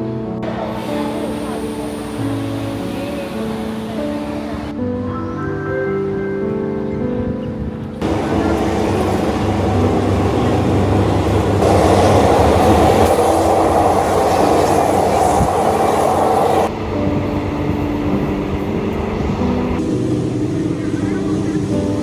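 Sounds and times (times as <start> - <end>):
train rumbling on rails: 0.0 - 4.8, 7.9 - 22.0.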